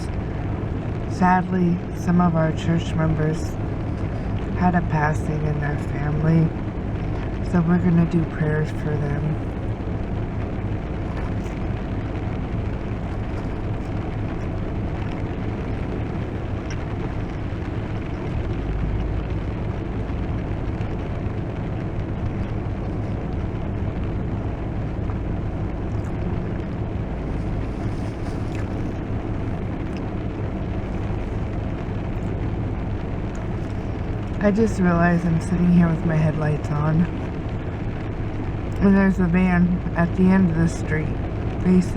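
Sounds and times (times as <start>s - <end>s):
heavy rain on car roof: 0.0s - 41.9s.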